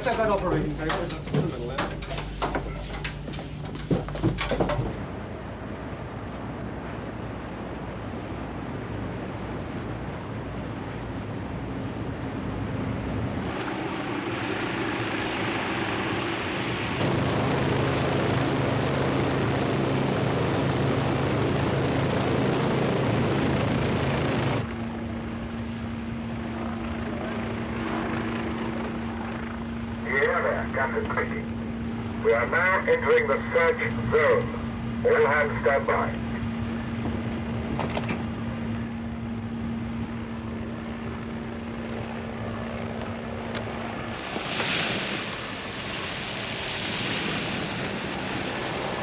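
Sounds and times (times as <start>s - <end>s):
helicopter rotor and turbine noise: 0.0s - 49.0s
high turbine whine: 0.0s - 49.0s.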